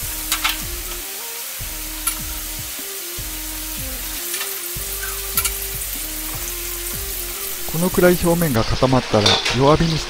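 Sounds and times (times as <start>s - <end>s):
chicken sizzling in oil: 0.0s - 10.0s
soft background music: 0.0s - 10.0s.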